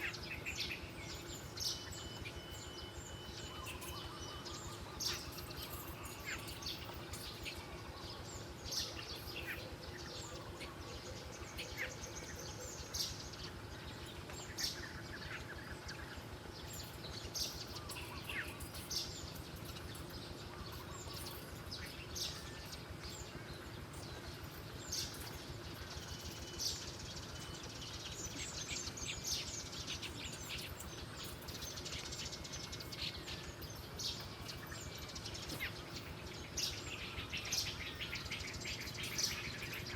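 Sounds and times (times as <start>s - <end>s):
birds chirping: 0.0s - 39.9s
low background hiss: 0.0s - 39.9s.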